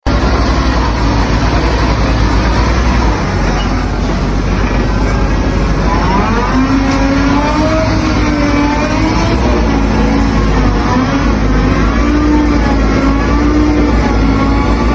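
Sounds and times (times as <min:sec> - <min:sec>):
heavy truck engine revving: 0:00.0 - 0:14.9.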